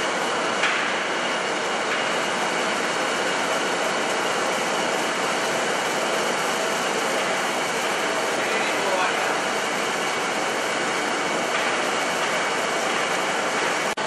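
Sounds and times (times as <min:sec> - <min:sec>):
film slitting machine whirring: 0:00.0 - 0:14.0.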